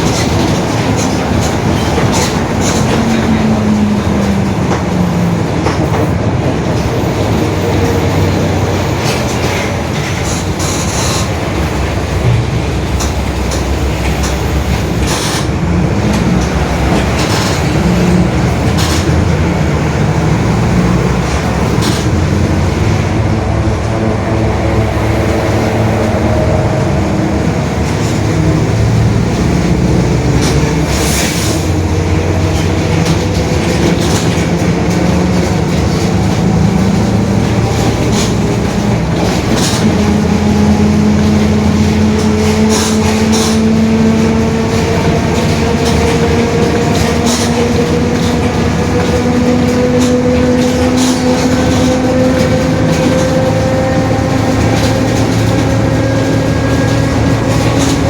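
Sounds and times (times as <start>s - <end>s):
bus drivetrain running: 0.0s - 58.0s
rattles and clicks: 0.0s - 58.0s.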